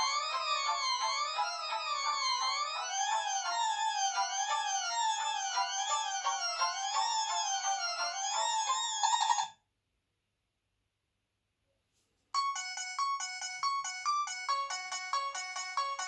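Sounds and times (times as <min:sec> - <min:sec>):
ringtone of short chiming notes: 0:00.0 - 0:09.6, 0:12.4 - 0:16.0
ringtone with gliding pitch: 0:00.0 - 0:09.6, 0:12.4 - 0:16.0.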